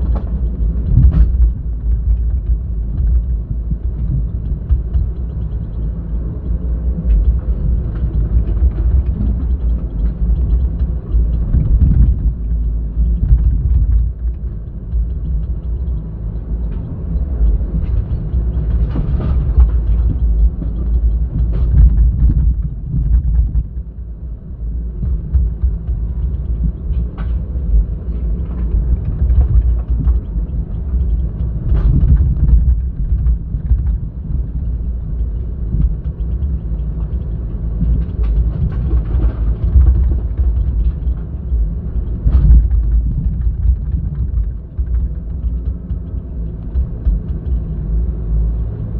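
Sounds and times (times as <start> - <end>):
excavator diesel rumble: 0.0 - 48.9.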